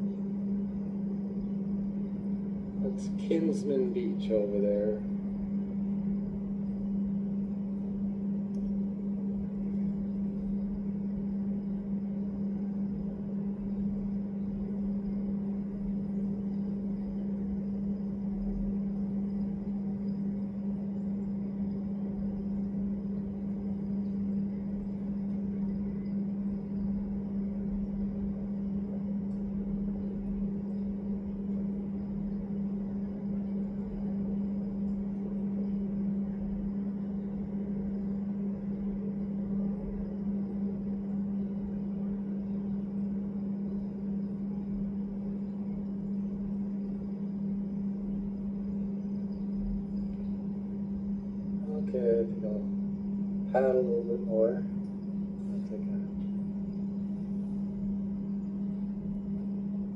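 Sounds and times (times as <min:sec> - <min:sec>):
faint rumbling noise: 0:00.0 - 0:59.9
steady low hum: 0:00.0 - 0:59.9.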